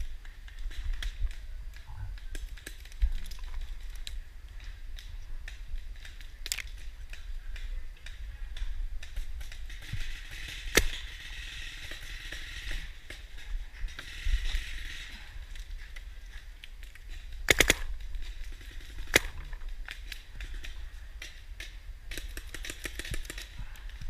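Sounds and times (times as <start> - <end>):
sharp cracks: 0.0 - 24.0.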